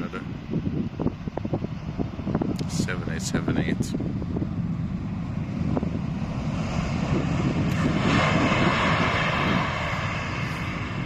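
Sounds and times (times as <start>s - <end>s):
jet engine noise: 0.0s - 11.0s
wind on microphone: 0.0s - 11.0s.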